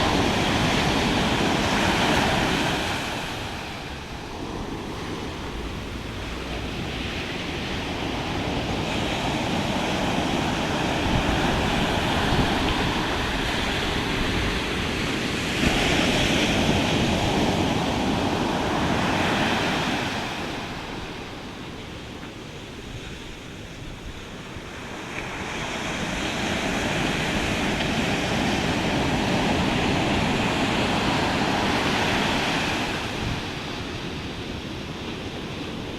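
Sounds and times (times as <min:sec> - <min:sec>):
ocean surf breaking: 0:00.0 - 0:35.9.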